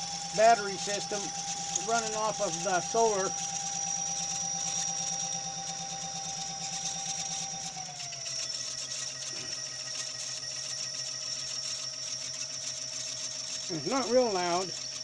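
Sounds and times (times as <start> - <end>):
electric motor hum and whine: 0.0 - 15.0.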